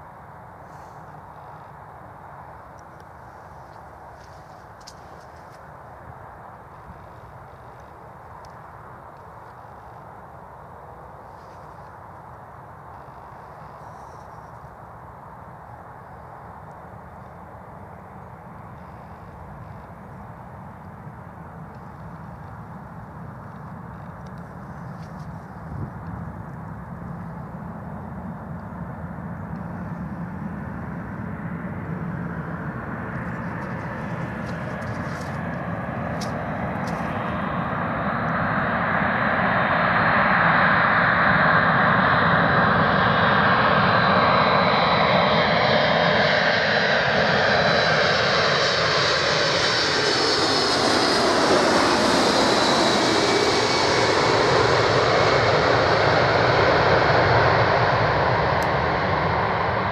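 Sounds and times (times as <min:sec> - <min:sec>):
jet engines whining overhead: 0:00.0 - 0:59.9.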